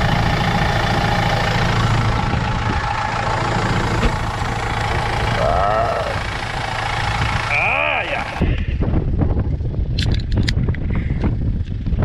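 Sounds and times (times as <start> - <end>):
engine idling with belt drive: 0.0 - 9.9.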